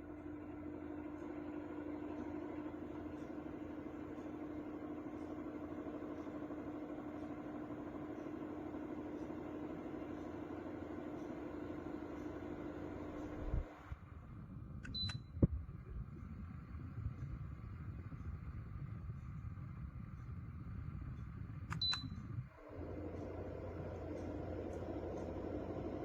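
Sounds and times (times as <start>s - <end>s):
fan air rushing: 0.0s - 26.0s
low motor hum: 0.0s - 26.0s.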